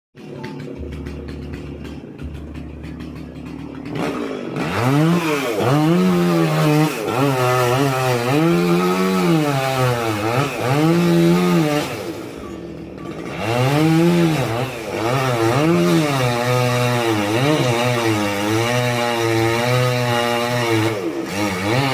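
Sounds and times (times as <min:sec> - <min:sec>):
chainsaw cutting wood: 0:00.2 - 0:21.9.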